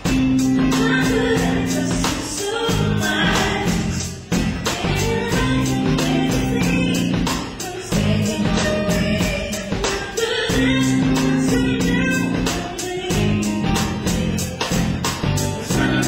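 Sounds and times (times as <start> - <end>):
drum kit with cymbals: 0.0 - 16.0
electric guitar: 0.0 - 16.0
person singing: 0.0 - 16.0.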